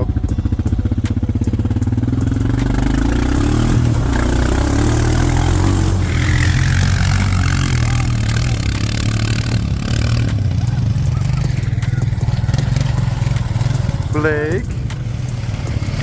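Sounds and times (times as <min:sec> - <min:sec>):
atv engine idling and revving: 0:00.0 - 0:16.0.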